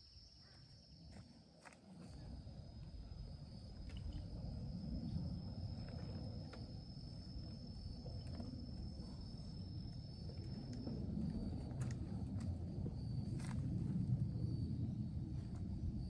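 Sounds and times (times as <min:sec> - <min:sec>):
insects trilling: 0:00.0 - 0:16.0
low rumbling noise: 0:02.1 - 0:16.0.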